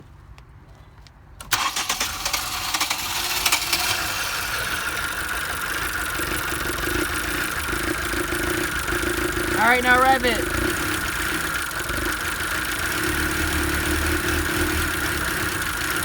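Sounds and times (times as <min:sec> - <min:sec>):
engine cranking and idling: 0:01.4 - 0:16.0.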